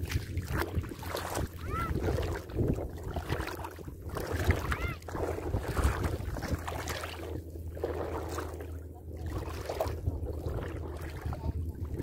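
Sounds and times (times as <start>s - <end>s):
seawater lapping and trickling: 0.0s - 12.0s
wind rumbling on microphone: 0.0s - 12.0s.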